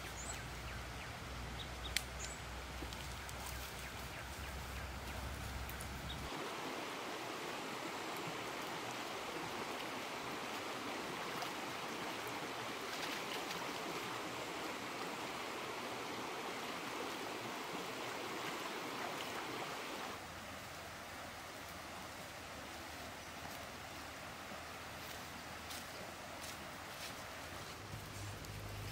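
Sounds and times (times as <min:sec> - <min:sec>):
woodland background: 0:00.0 - 0:28.9
stream flowing over rocks: 0:05.7 - 0:28.9.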